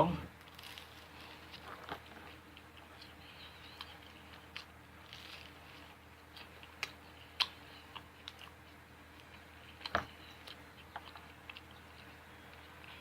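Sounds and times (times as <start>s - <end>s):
person chewing food: 0.4s - 13.0s.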